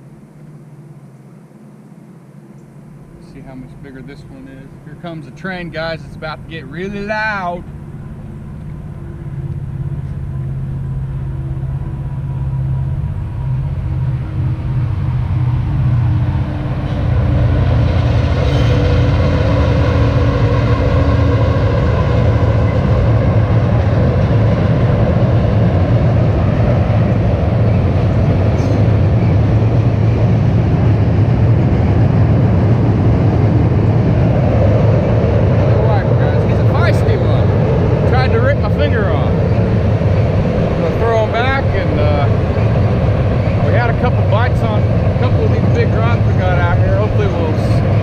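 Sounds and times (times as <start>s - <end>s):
train passing rumble: 0.0s - 48.0s.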